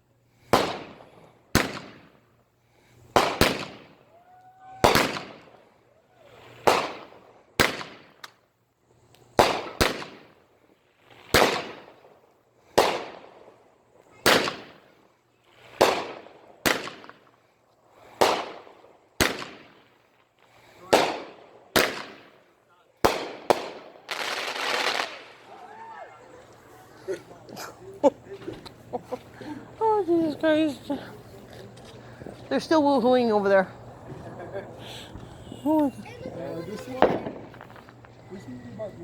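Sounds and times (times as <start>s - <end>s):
fireworks banging and crackling: 0.4s - 2.4s, 3.0s - 39.0s.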